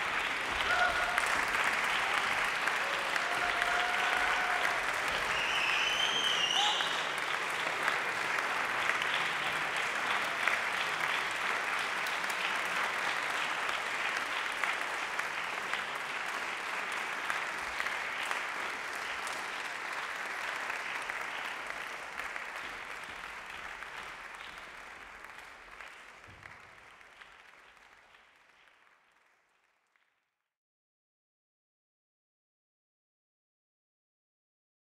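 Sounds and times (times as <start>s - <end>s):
audience applauding: 0.0s - 30.1s.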